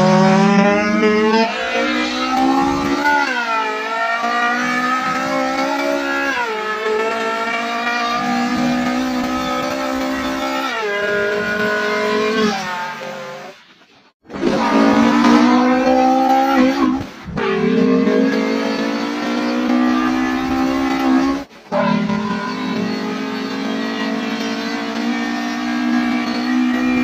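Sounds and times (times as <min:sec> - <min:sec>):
person imitating engine revving: 0:00.0 - 0:13.1, 0:14.4 - 0:27.0.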